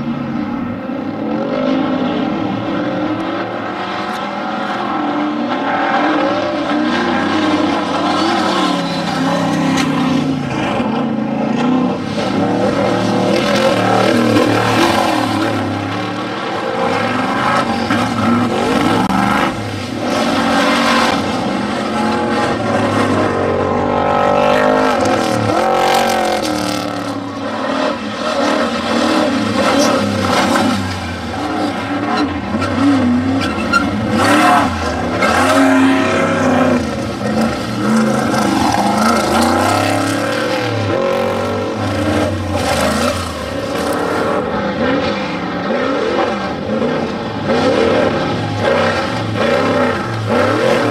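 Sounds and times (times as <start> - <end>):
race vehicle engines revving: 0.0 - 50.9.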